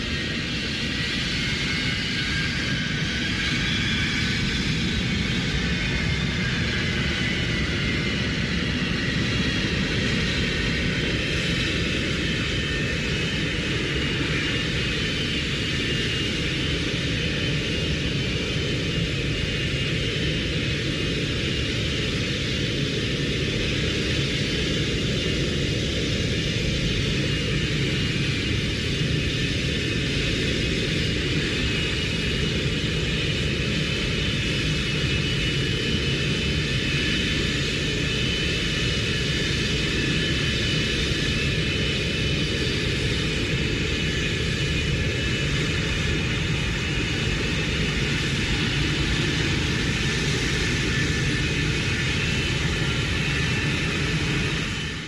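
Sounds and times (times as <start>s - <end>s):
high-pitched engine whine: 0.0s - 55.0s
jet engines rumbling: 0.0s - 55.0s.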